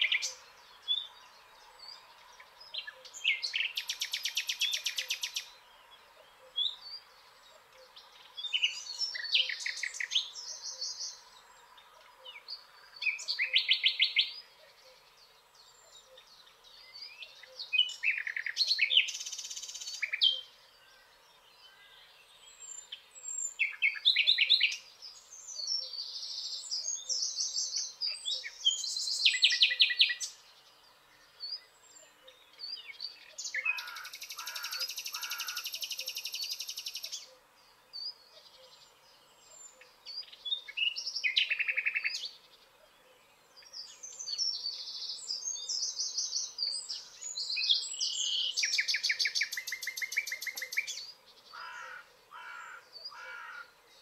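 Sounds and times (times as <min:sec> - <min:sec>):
songbirds trilling and warbling: 0:00.0 - 0:54.0.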